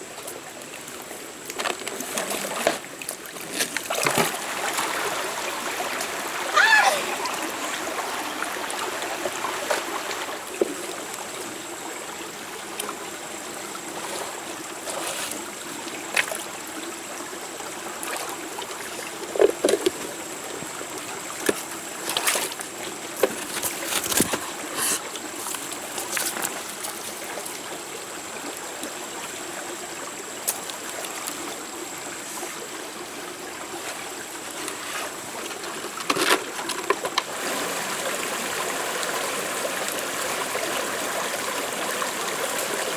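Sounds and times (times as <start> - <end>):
running water: 0.0 - 42.9.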